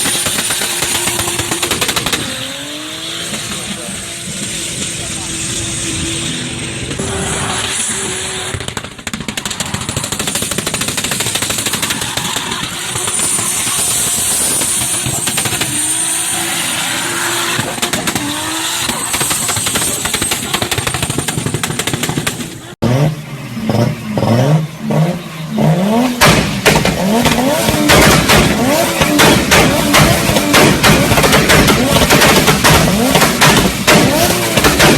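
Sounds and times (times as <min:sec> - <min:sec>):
engine revving in blips: 0:00.0 - 0:34.9
exhaust popping and banging: 0:00.0 - 0:34.9.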